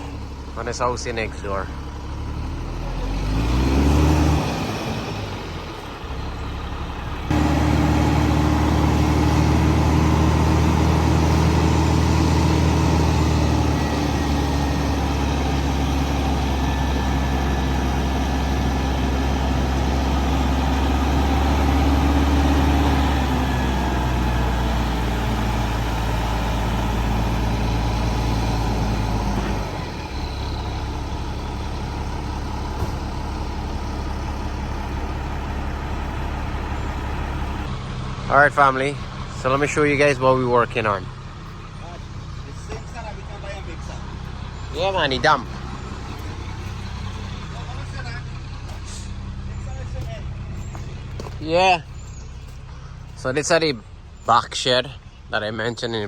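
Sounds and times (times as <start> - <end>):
heavy truck engine revving: 0.0 - 56.0.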